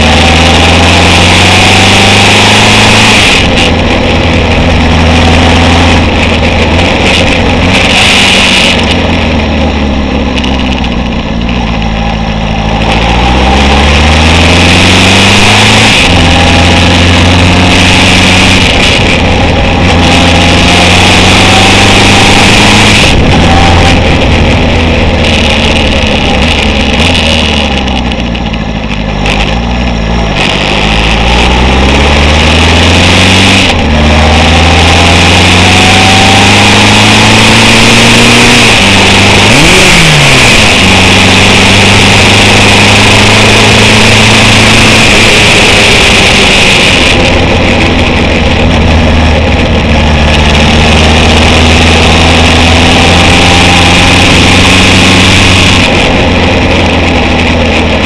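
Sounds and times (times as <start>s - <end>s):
motorcycle engine accelerating: 0.0s - 58.0s
wind rush on microphone: 1.6s - 58.0s.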